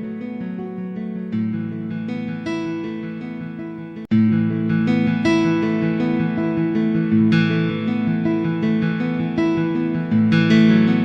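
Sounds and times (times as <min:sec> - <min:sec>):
plucked acoustic guitar: 0:00.0 - 0:11.0.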